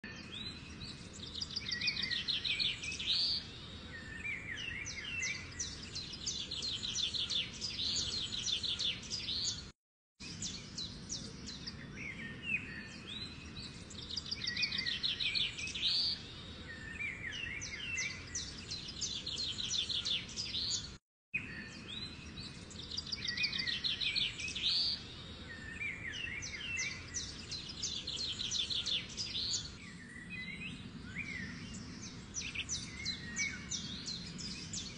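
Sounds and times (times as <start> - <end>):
birds chirping and singing: 0.1 - 34.9.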